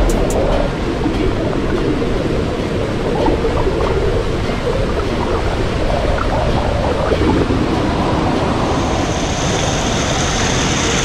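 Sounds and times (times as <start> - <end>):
muffled underwater stream rushing: 0.0 - 11.0.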